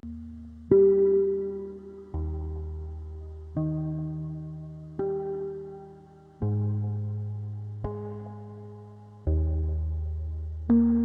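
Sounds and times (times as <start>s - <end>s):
slow ambient music chords: 0.0s - 11.0s.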